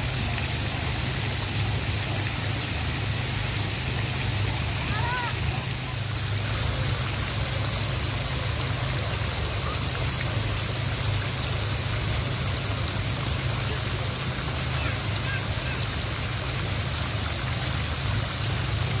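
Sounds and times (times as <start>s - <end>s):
fountain jets splashing: 0.0s - 19.0s
low steady rumble: 0.0s - 19.0s.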